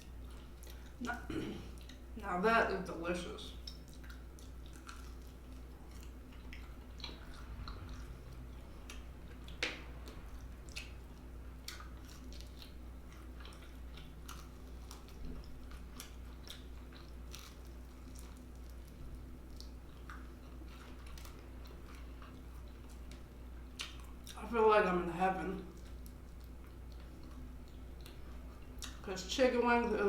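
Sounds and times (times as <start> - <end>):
chewing and biting chicken wings: 3.5 - 24.4, 25.7 - 29.1.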